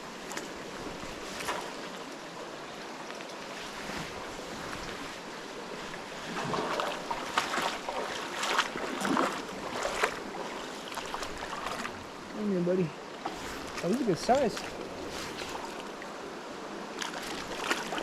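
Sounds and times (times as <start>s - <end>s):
flowing river: 0.0s - 18.0s.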